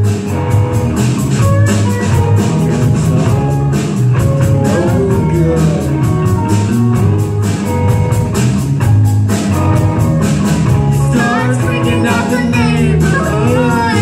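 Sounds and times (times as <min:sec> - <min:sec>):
bass guitar: 0:00.0 - 0:14.0
drum kit beat: 0:00.0 - 0:14.0
electric guitars: 0:00.0 - 0:14.0.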